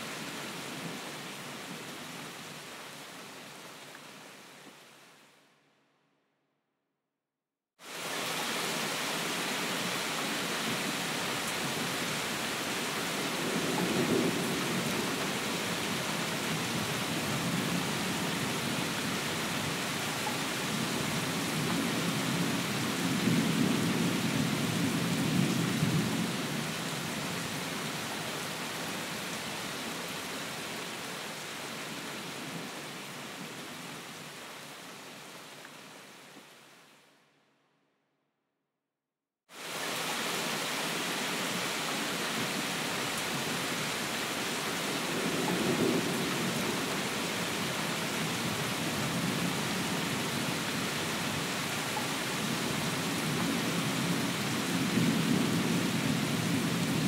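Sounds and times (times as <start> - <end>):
steady rain hiss: 0.0 - 5.6, 7.8 - 37.3, 39.5 - 57.0.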